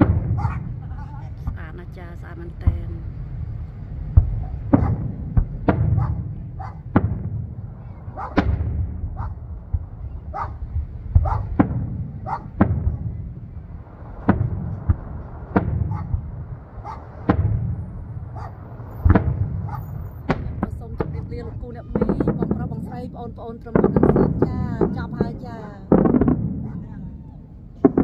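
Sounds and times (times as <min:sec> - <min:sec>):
firework shells booming: 0:00.0 - 0:28.0
low rumble: 0:00.0 - 0:28.0.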